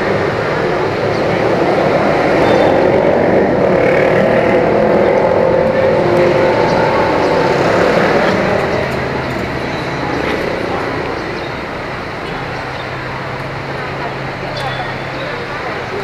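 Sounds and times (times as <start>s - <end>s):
train rumbling past: 0.2s - 16.0s.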